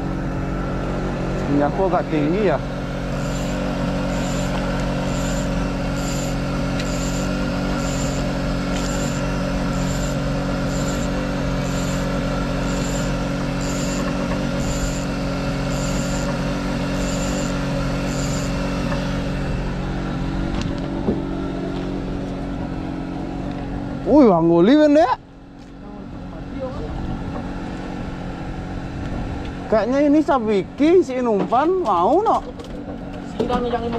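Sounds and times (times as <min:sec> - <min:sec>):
boat engine idling: 0:00.0 - 0:33.9.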